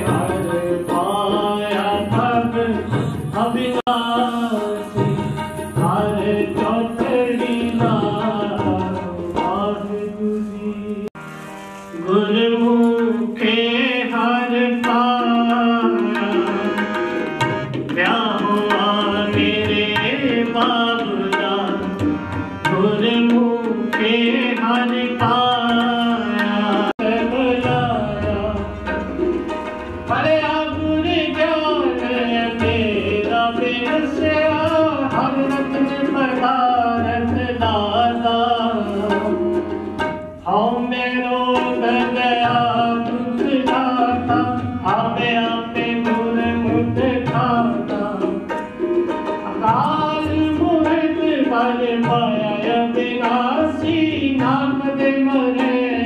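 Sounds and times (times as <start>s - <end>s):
tabla drumming: 0.0s - 10.3s, 11.1s - 56.0s.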